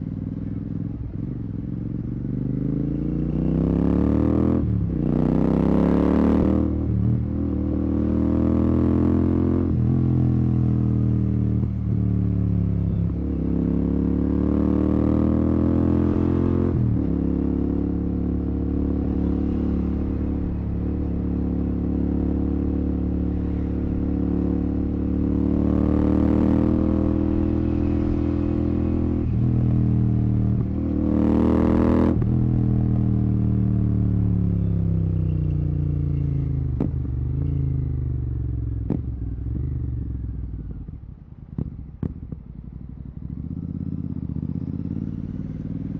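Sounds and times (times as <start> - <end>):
motorcycle engine revving through gears: 1.0 - 45.9.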